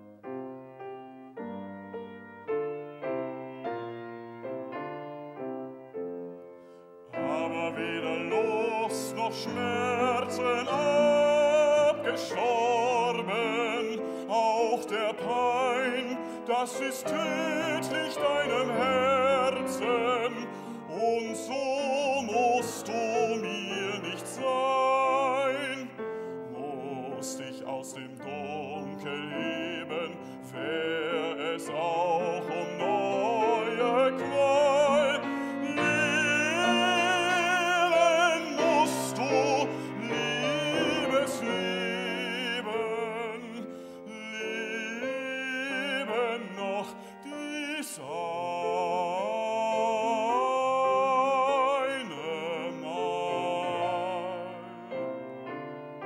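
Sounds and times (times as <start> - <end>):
grand piano accompaniment: 0.0 - 56.0
man singing opera: 7.1 - 55.9.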